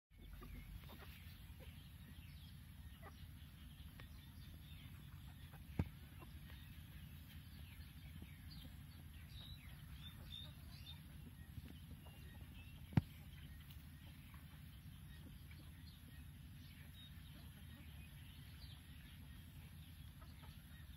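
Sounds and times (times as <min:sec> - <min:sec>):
chickens clucking and chirping: 0:00.1 - 0:20.9
steady low rumble: 0:00.2 - 0:20.9.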